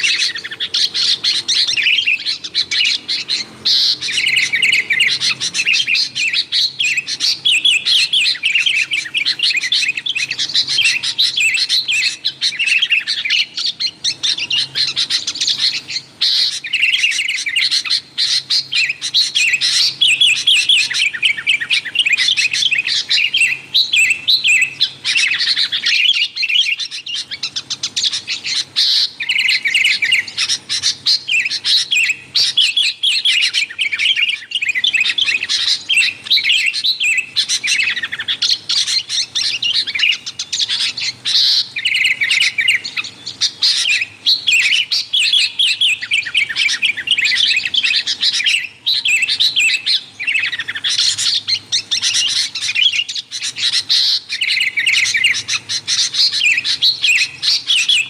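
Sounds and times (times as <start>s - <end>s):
birds chattering: 0.0s - 58.0s.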